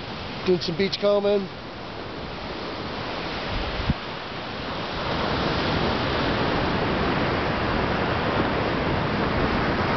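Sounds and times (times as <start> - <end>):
ocean surf breaking: 0.0 - 9.9.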